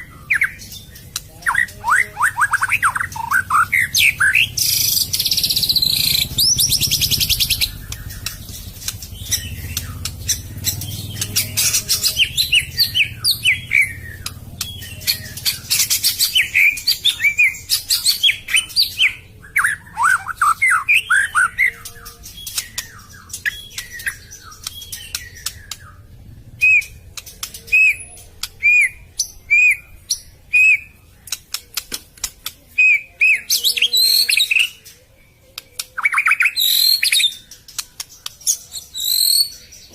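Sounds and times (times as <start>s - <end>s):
songbird trills and whistles: 0.0s - 31.4s, 32.7s - 39.9s.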